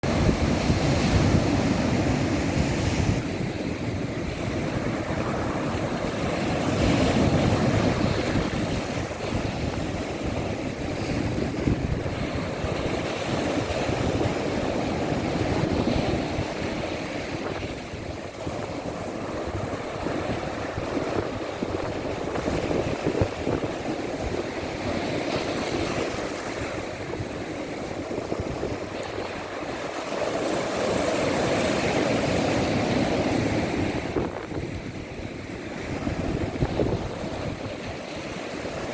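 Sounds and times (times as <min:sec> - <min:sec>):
sea waves breaking on rocks: 0:00.0 - 0:38.9
wind on microphone: 0:00.0 - 0:38.9.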